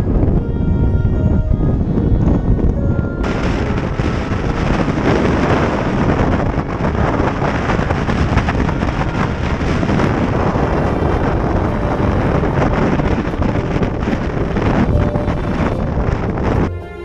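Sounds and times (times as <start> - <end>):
storm wind buffeting microphone: 0.0 - 17.0
waves rushing along hull: 0.0 - 17.0.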